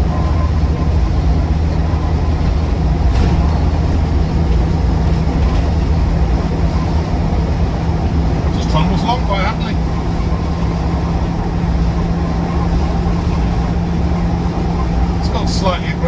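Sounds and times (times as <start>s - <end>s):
diesel engine running: 0.0s - 16.0s
road and tyre noise: 0.0s - 16.0s.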